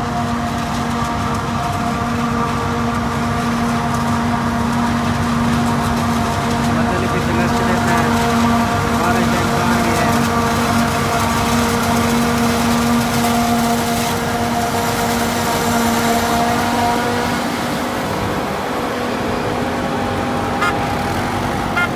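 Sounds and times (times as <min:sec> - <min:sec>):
forage harvester machine hum: 0:00.0 - 0:21.9.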